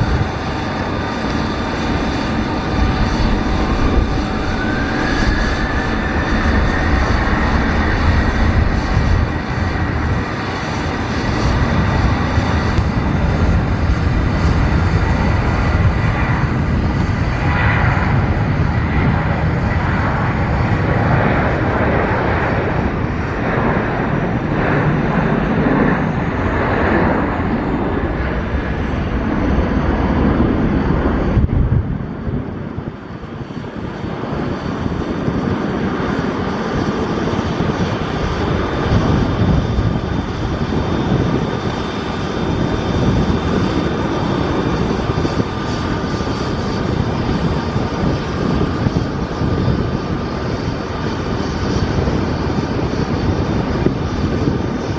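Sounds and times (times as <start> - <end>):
jet engines roaring: 0.0 - 54.9.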